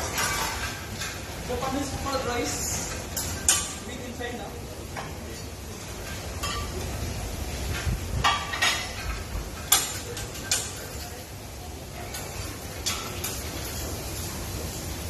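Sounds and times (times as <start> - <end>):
metal utensils clanking on griddle: 0.0 - 14.7.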